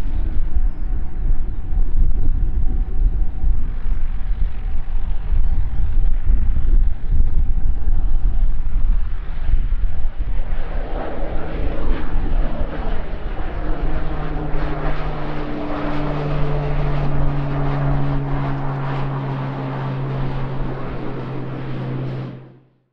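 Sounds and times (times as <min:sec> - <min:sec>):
turboprop propeller drone: 0:00.0 - 0:22.9.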